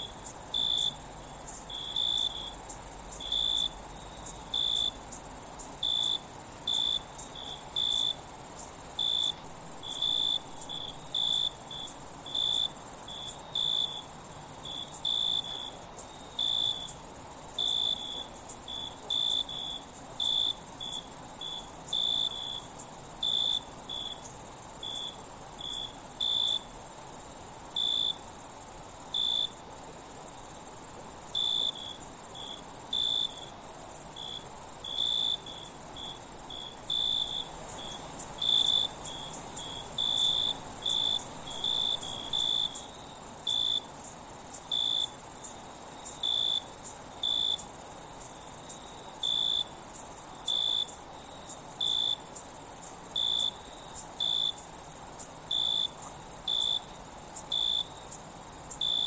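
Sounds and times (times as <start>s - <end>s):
low-pitched insect chirps: 0.0s - 29.6s, 30.3s - 48.1s, 48.7s - 59.0s
crickets trilling: 0.0s - 59.0s.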